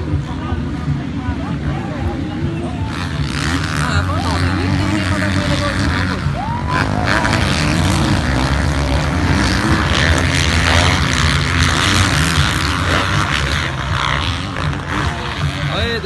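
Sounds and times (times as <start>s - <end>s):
motocross bike engines droning: 0.0s - 16.0s.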